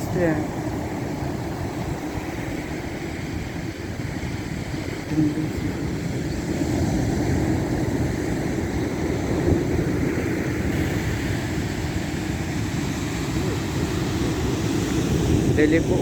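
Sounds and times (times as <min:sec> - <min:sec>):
sea surf: 0:00.0 - 0:16.0
wind buffeting microphone: 0:00.0 - 0:16.0.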